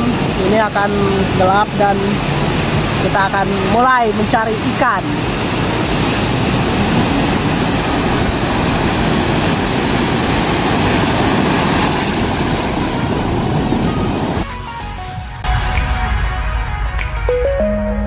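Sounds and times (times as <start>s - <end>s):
ocean waves rushing on beach: 0.0s - 15.2s.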